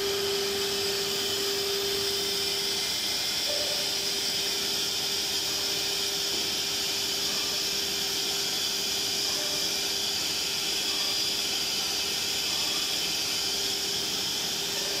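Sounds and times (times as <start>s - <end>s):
cnc router hissing: 0.0s - 15.0s
steady machine tone: 0.0s - 15.0s.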